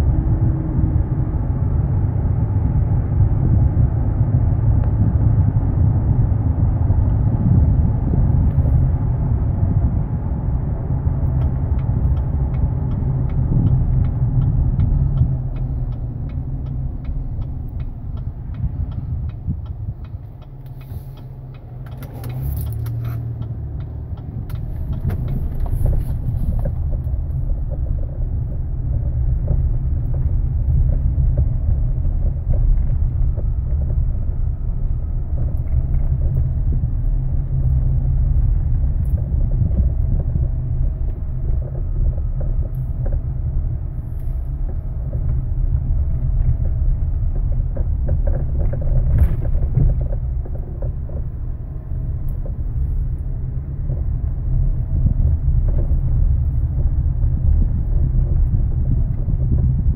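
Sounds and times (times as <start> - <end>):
road and drivetrain rumble in cabin: 0.0 - 59.9.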